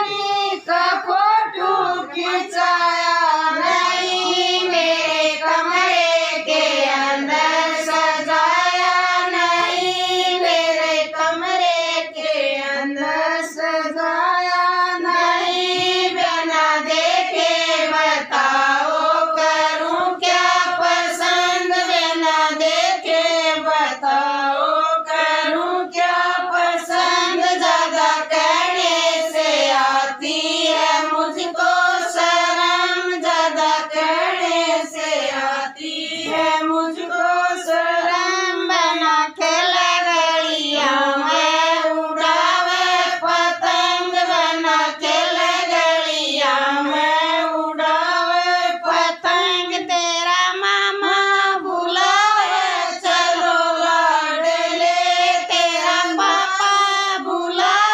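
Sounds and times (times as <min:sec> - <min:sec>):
women singing in unison: 0:00.0 - 0:57.9.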